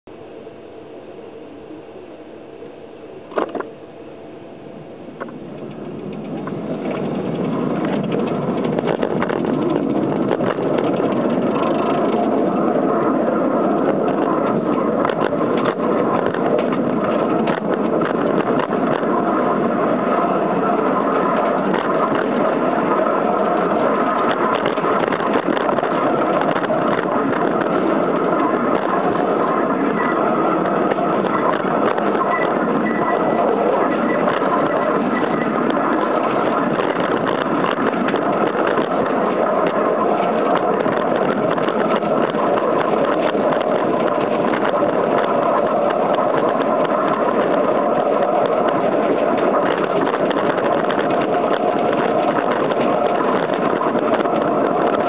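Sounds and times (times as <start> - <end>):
small petrol engine running: 5.4 - 55.0.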